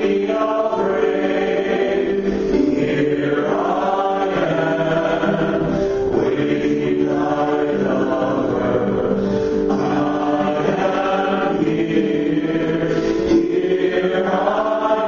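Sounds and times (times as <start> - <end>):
group singing a hymn: 0.0 - 15.0.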